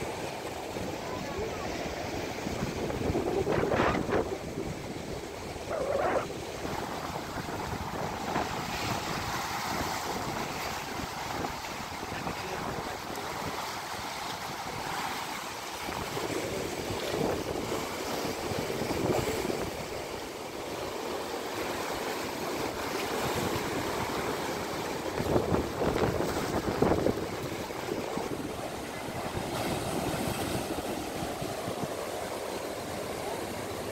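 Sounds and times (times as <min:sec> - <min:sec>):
sea water washing against jetty: 0:00.0 - 0:33.9
wind rumbling on microphone: 0:00.6 - 0:20.8, 0:21.7 - 0:33.4.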